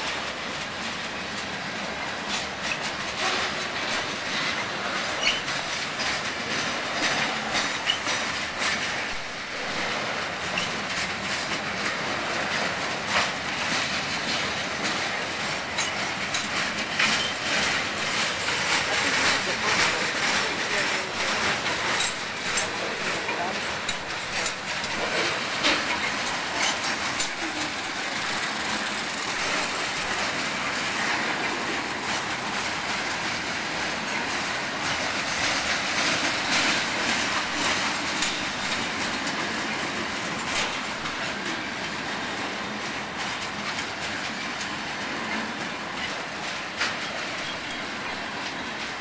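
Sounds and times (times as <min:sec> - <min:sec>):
railroad cars rumbling past: 0:00.0 - 0:49.0
wheels clacking over rail joints: 0:00.0 - 0:49.0.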